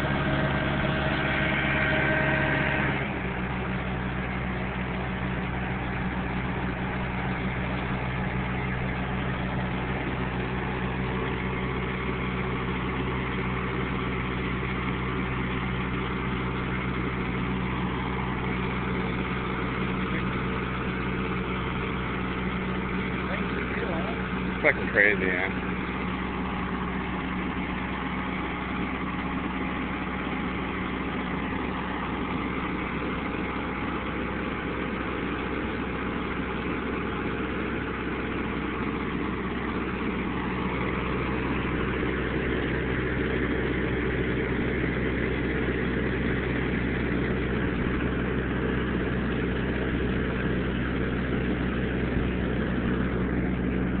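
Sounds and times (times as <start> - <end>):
vehicle engine droning: 0.0 - 54.0.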